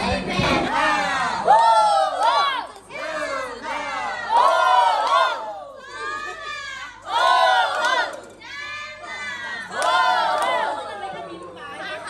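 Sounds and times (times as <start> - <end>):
crowd shouting and cheering: 0.0 - 12.0.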